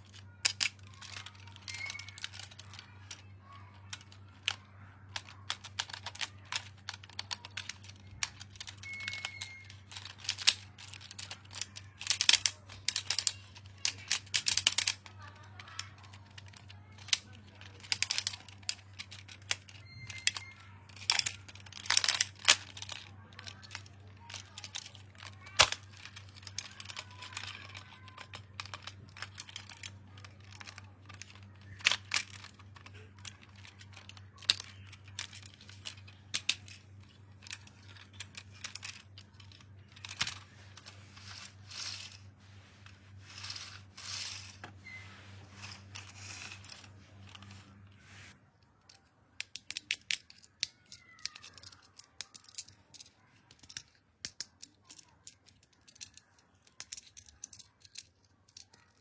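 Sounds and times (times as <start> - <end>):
low steady hum: 0.0 - 49.5.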